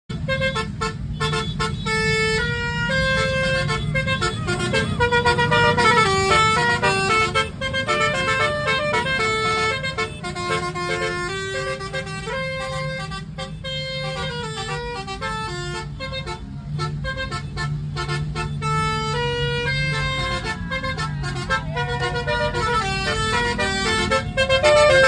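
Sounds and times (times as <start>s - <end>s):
bus horn playing a tune: 0.1s - 25.0s
engine rumbling: 0.1s - 25.0s.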